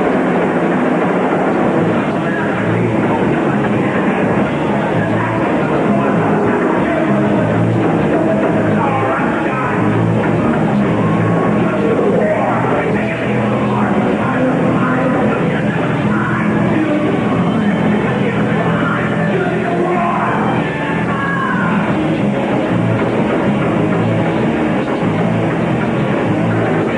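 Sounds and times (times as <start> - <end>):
rock band playing live: 0.0 - 26.9.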